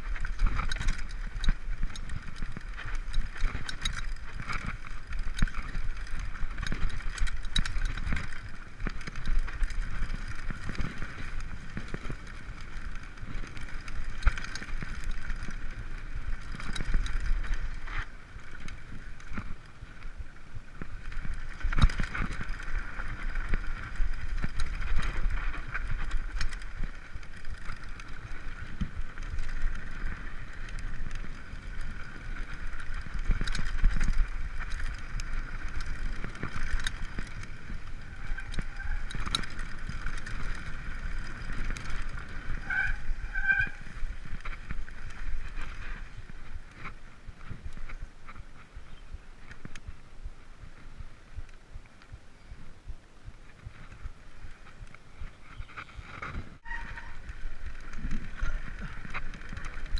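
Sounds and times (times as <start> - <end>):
bike frame rattling: 0.0 - 50.0, 53.4 - 59.9
bike tyres rumbling on dirt: 0.0 - 59.9.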